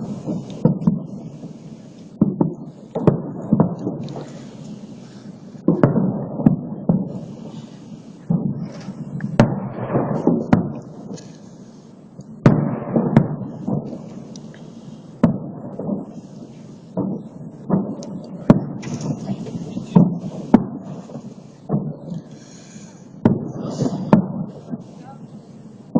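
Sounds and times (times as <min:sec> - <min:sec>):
fireworks bangs with echoing rumble: 0:00.0 - 0:25.9.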